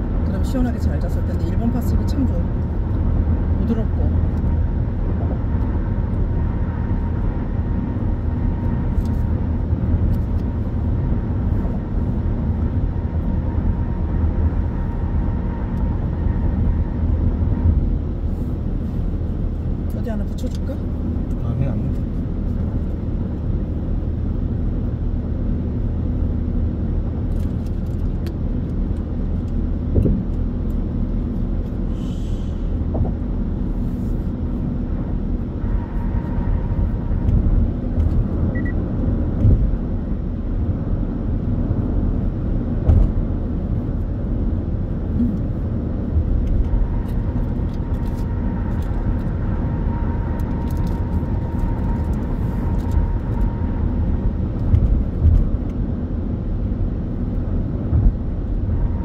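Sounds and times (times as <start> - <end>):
tyre and engine rumble: 0.0 - 59.0.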